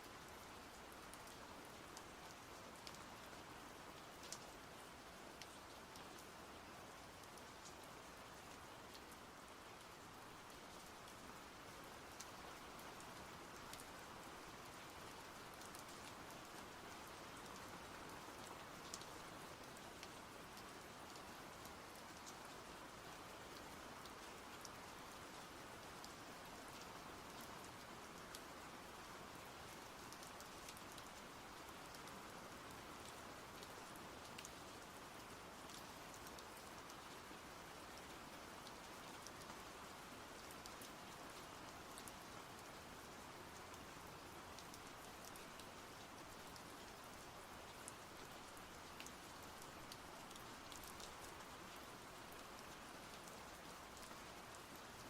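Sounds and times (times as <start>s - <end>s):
faint rain patter: 0.0s - 55.0s.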